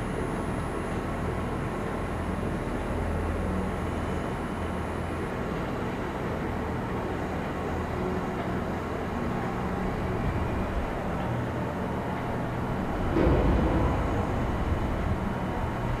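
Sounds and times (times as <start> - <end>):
constant low hum: 0.0 - 16.0
low mechanical rumble: 0.0 - 16.0.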